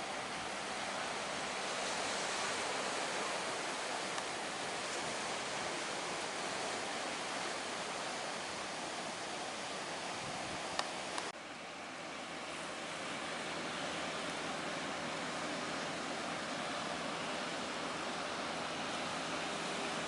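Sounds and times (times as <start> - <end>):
sea waves and surf: 0.0 - 20.0.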